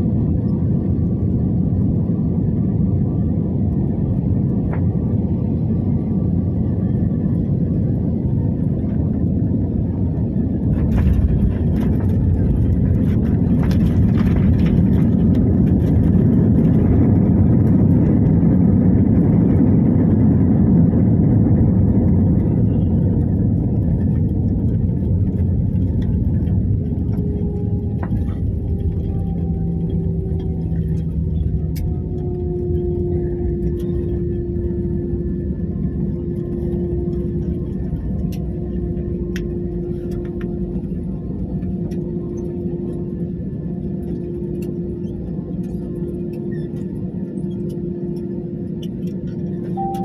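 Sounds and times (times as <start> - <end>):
airliner cabin rumble: 0.0 - 50.0
faint engine tones: 0.0 - 50.0.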